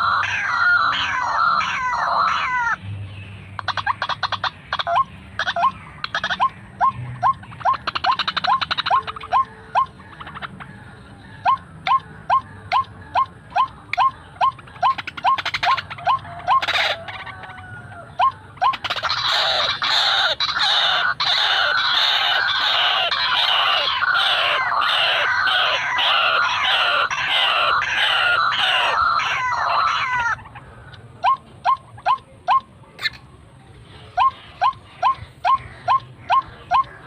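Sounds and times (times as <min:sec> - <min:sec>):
bird harsh rhythmic croaking: 0:00.0 - 0:37.0.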